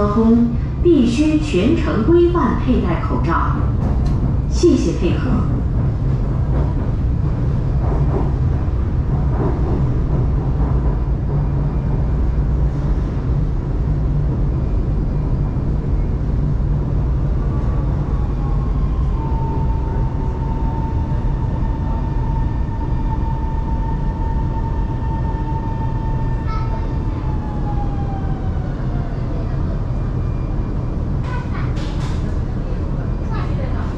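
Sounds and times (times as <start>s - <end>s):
train rumble and hum: 0.0s - 33.9s.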